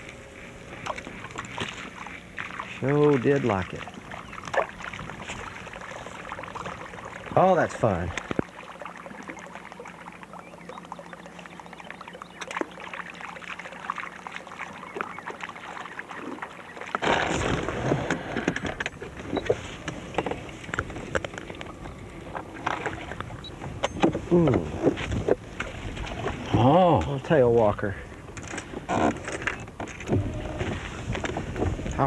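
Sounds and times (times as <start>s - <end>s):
hiss of wind and water: 0.0s - 29.2s.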